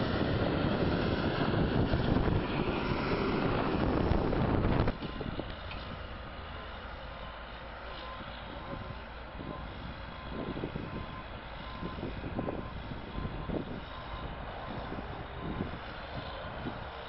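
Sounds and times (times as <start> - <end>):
bulldozer diesel engine: 0.0 - 17.0.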